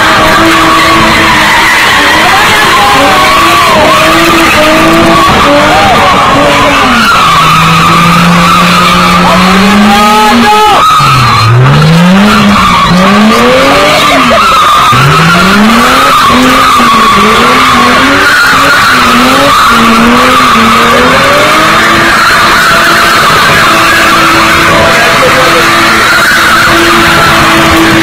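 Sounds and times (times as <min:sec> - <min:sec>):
car engine revving hard: 0:00.0 - 0:28.0
tyres screeching on tarmac: 0:00.0 - 0:28.0.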